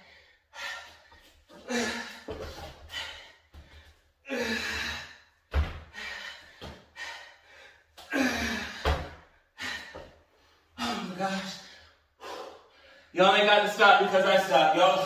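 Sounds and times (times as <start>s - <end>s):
man breathing hard and gasping: 0.0s - 13.2s.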